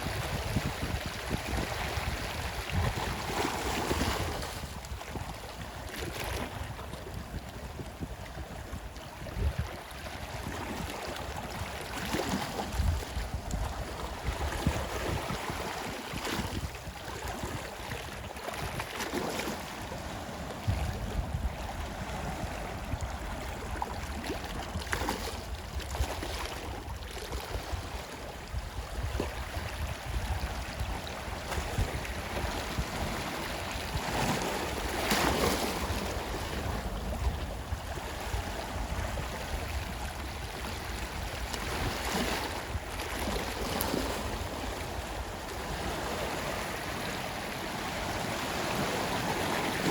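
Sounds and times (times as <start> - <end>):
sea waves washing onto shore: 0.0 - 49.9.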